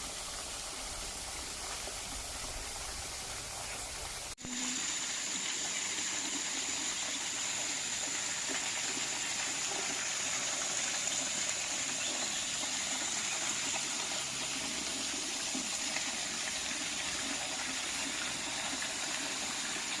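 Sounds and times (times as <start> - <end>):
water rushing and splashing: 0.0 - 20.0.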